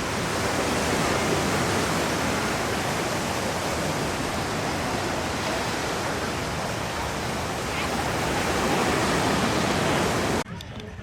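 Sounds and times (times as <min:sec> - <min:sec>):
surf washing onto beach: 0:00.0 - 0:10.4.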